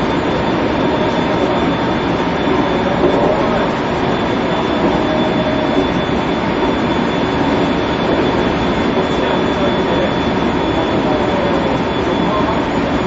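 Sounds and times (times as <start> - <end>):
thin high tone: 0.0 - 13.0
train wheels on rail: 0.0 - 13.0.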